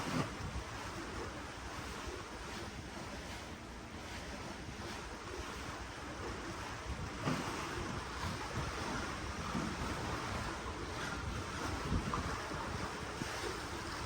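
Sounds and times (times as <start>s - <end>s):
ocean water splashing: 0.0s - 14.0s
wind rumbling on microphone: 0.0s - 14.0s.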